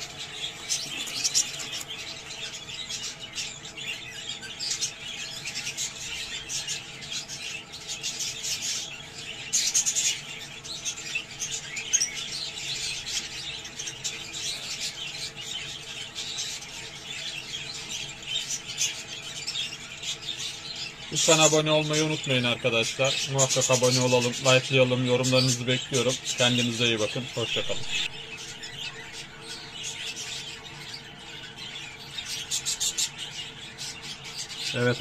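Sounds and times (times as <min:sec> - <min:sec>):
budgerigars chattering: 0:00.0 - 0:35.0.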